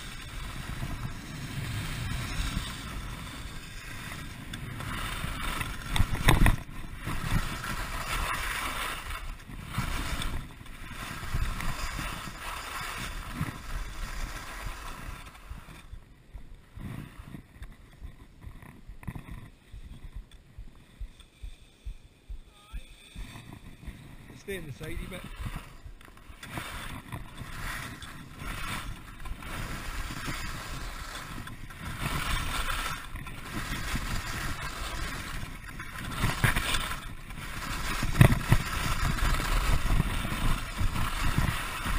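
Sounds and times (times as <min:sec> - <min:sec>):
skis scraping on frozen snow: 0:00.0 - 0:21.9, 0:22.5 - 0:41.9.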